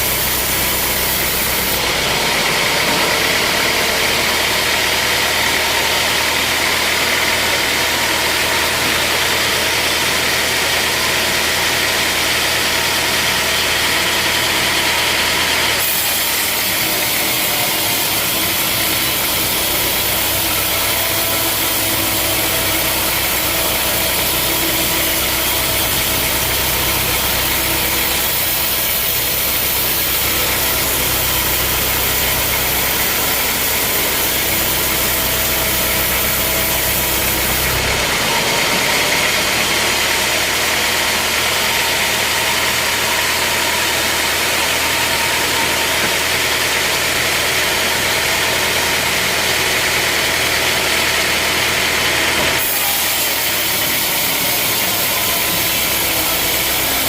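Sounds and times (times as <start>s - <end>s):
sawmill motor drone with hiss: 0.0s - 57.0s.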